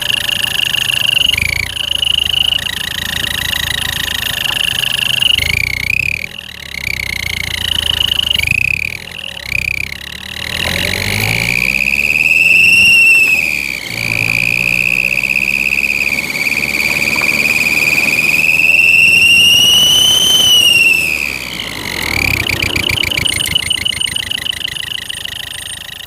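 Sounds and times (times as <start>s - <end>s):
engine low hum: 0.0s - 26.0s
exhaust whistle: 0.0s - 26.0s.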